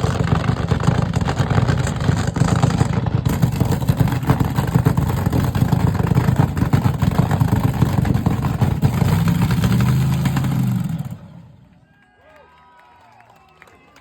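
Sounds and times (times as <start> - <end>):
car engine with exhaust rumble: 0.0 - 11.8.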